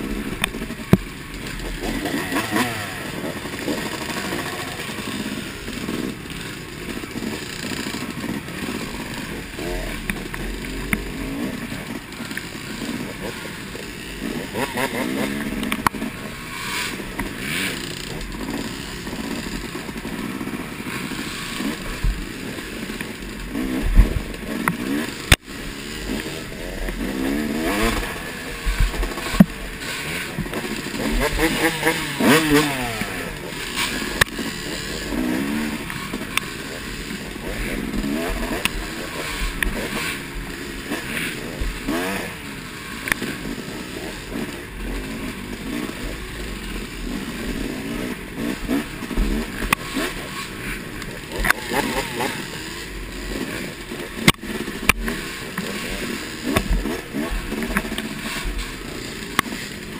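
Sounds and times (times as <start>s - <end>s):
dirt bike engine revving: 0.0s - 59.9s
other dirt bikes: 0.0s - 59.9s.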